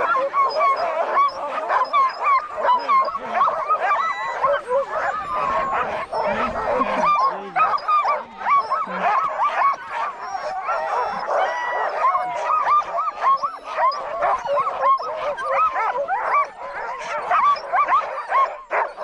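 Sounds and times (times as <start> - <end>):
sled dogs barking: 0.0 - 19.0.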